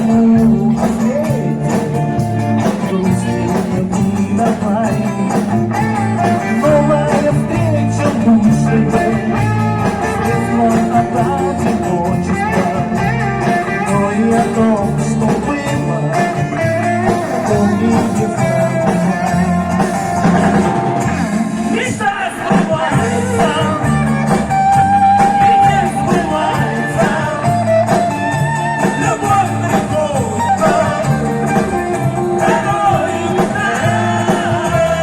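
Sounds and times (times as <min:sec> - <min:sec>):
bass line: 0:00.0 - 0:35.0
electric guitar melody: 0:00.0 - 0:35.0.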